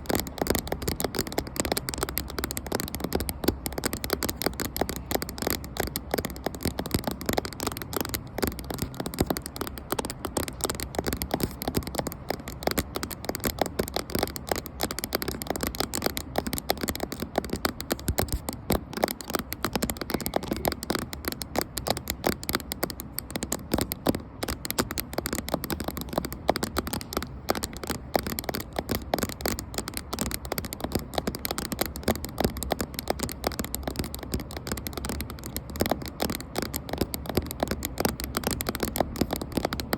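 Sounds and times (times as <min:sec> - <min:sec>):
fingers tapping on a camera: 0:00.0 - 0:39.9.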